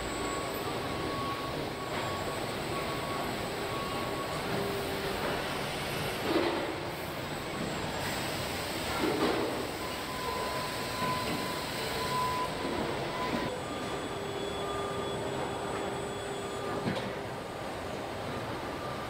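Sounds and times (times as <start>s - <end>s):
factory machinery hum and hiss: 0.0s - 19.0s.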